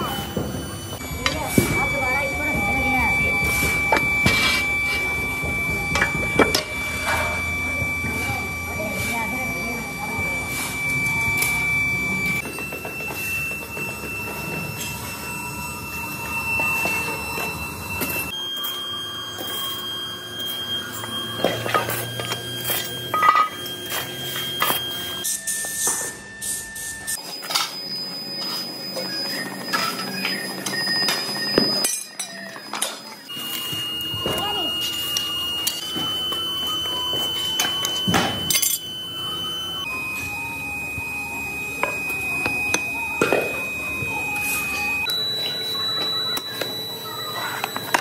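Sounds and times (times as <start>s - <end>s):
high-pitched whine: 0.0s - 48.0s.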